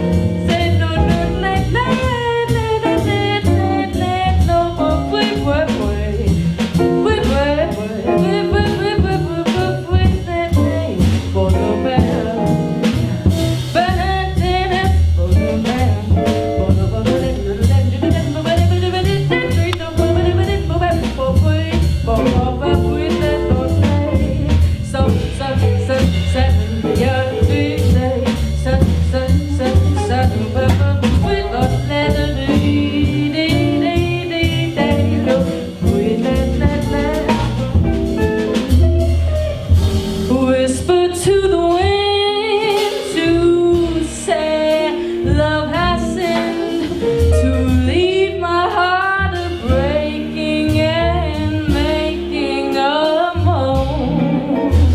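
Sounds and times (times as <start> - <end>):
woman singing: 0.0 - 39.5, 40.2 - 54.9
drum kit: 0.0 - 54.9
jazz band playing: 0.0 - 54.9.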